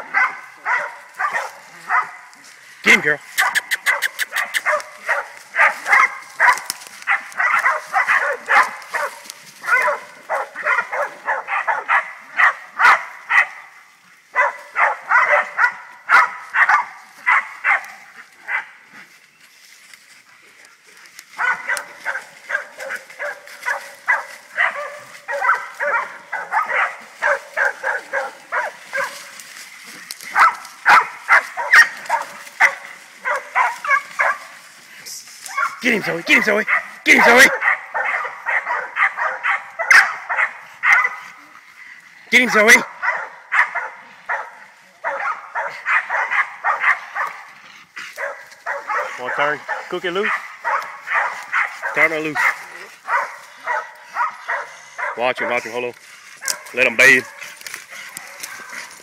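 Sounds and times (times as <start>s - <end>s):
dog barking fast: 0.0s - 2.2s, 3.4s - 13.6s, 14.4s - 18.7s, 21.4s - 29.3s, 30.3s - 34.5s, 35.5s - 41.3s, 42.3s - 47.5s, 48.2s - 55.8s, 56.4s - 58.9s.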